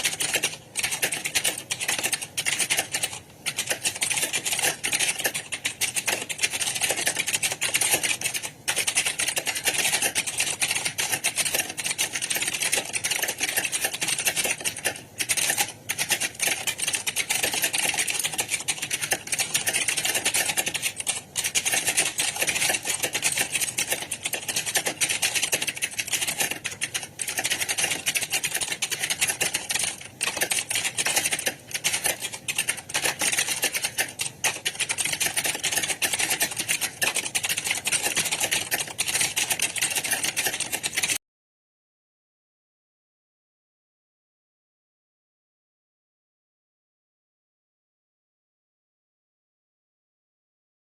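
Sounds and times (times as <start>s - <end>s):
keyboards typing clatter: 0.0s - 41.2s.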